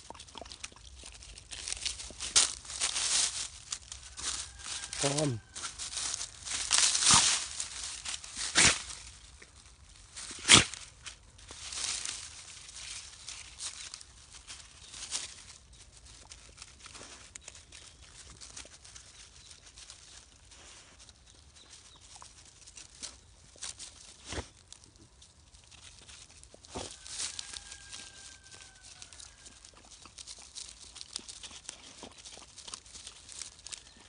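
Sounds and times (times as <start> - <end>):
dry leaves rustling and crackling: 0.0 - 34.0.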